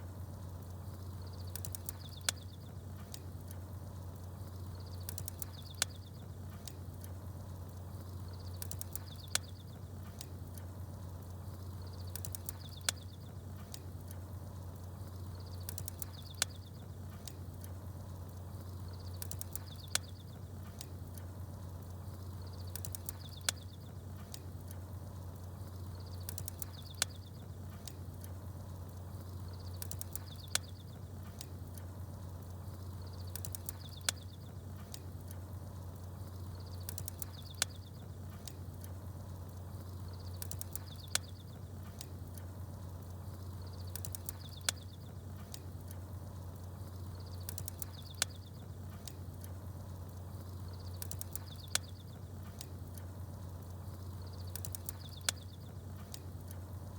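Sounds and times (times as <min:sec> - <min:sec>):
campfire crackling: 0:00.0 - 0:56.9
constant low hum: 0:00.0 - 0:56.9
small birds twittering: 0:00.8 - 0:03.2, 0:04.4 - 0:10.6, 0:11.2 - 0:14.2, 0:14.8 - 0:56.6.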